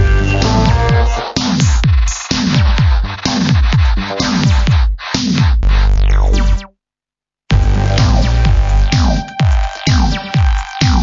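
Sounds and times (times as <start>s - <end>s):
electronic dance music: 0.0s - 6.6s, 7.5s - 11.0s.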